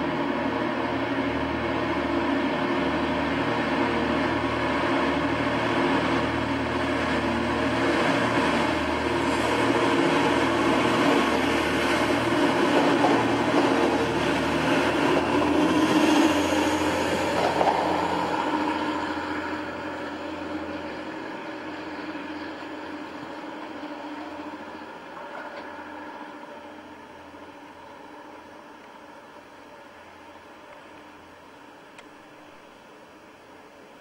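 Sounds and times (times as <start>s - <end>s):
train wheels on rails: 0.0s - 28.5s
diesel train engine drone: 0.0s - 34.0s.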